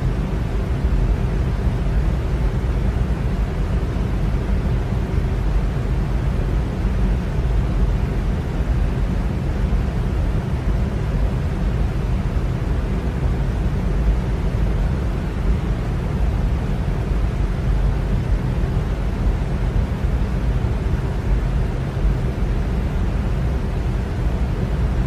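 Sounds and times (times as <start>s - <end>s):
electric fan running: 0.0s - 25.0s.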